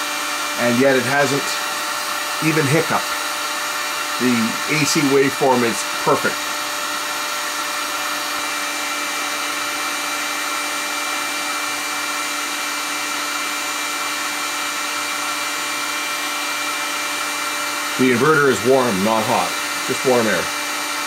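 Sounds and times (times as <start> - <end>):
heat gun running: 0.0 - 21.0.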